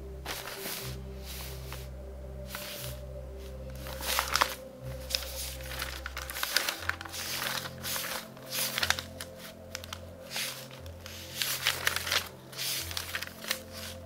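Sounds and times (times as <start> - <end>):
soft background music: 0.0 - 14.0
newspaper pages rustling: 0.2 - 14.0.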